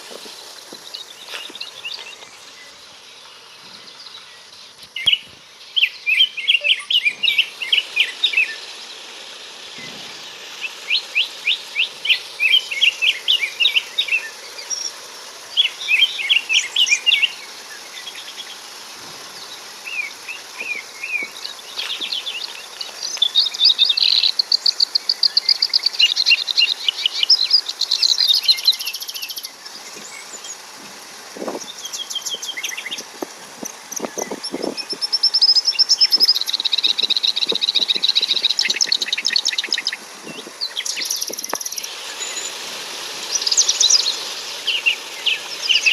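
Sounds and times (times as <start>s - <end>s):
birds chirping: 0.0s - 45.9s
faint steady hiss: 0.0s - 45.9s.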